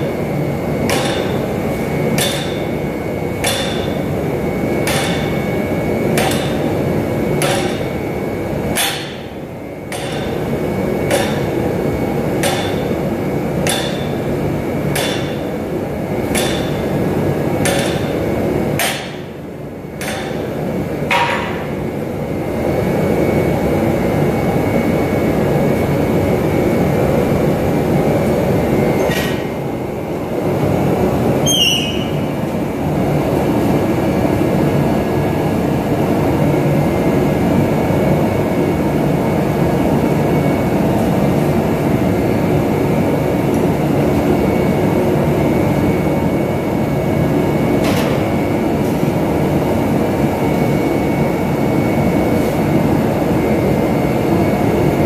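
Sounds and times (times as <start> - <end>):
roaring machine noise: 0.0 - 55.0.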